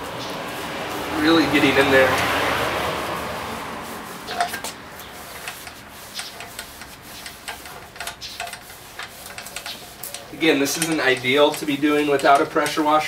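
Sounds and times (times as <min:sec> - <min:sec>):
wet towel scrubbing wheel: 0:00.0 - 0:13.0.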